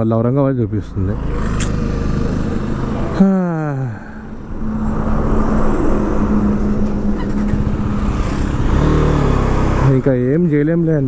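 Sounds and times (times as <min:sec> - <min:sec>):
traffic noise: 0:00.0 - 0:11.0
steady engine hum: 0:00.5 - 0:11.0.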